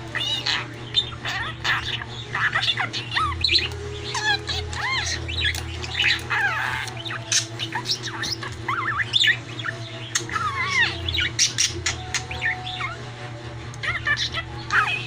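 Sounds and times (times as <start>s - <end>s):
budgerigar chattering: 0.0s - 13.0s, 13.8s - 15.0s.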